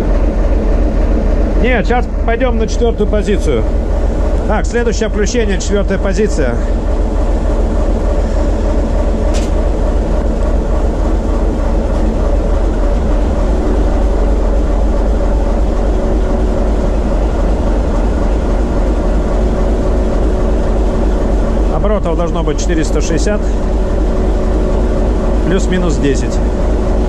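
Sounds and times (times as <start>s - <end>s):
diesel locomotive engine under load: 0.0s - 27.0s.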